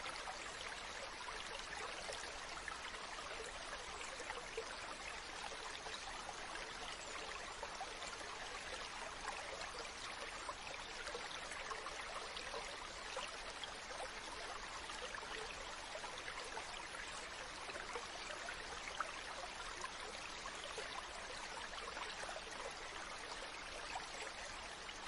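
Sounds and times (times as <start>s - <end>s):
stream water running: 0.0s - 25.0s.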